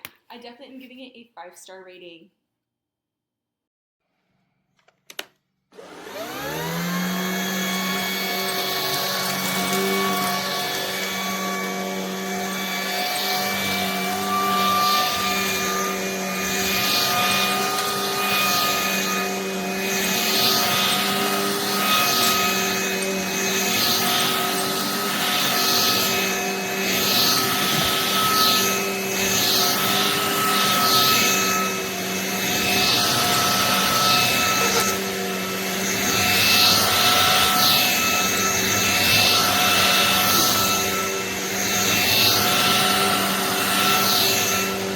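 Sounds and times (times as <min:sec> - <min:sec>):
vacuum cleaner running: 0:05.7 - 0:44.9.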